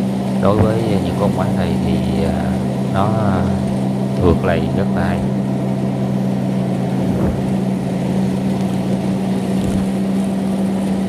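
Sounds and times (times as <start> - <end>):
combine harvester engine droning: 0.0 - 11.0.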